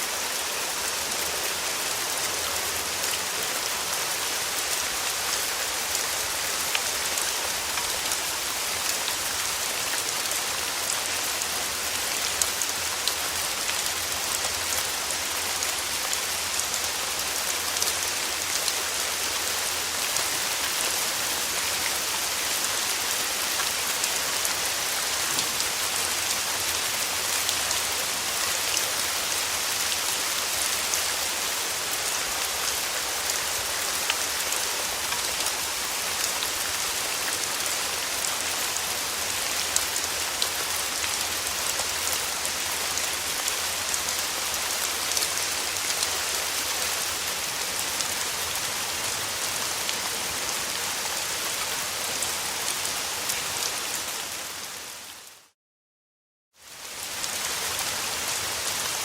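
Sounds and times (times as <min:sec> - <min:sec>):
steady rain falling: 0:00.0 - 0:55.6, 0:56.6 - 0:59.0.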